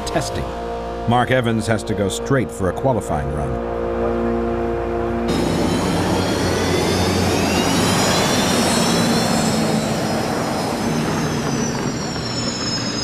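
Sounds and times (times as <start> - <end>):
turbine engine whining: 0.0 - 13.0.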